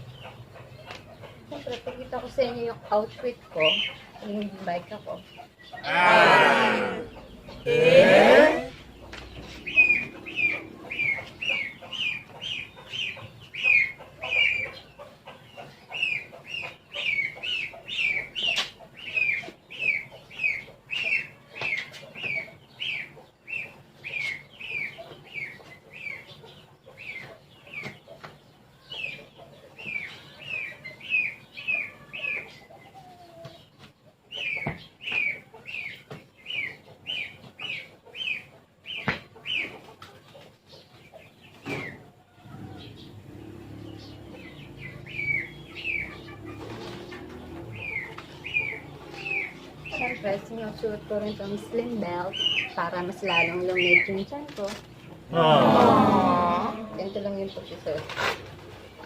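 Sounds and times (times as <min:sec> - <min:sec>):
bird chirping: 0:00.0 - 0:55.6.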